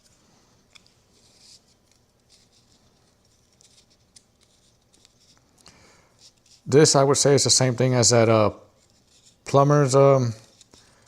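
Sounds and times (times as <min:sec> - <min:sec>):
faint tape rustling: 0:00.0 - 0:11.0.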